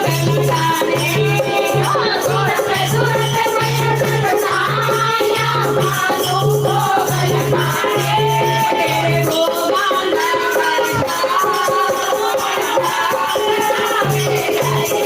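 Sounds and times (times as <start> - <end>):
devotional song sung: 0.0 - 15.0
rhythmic rattling percussion: 0.0 - 15.0.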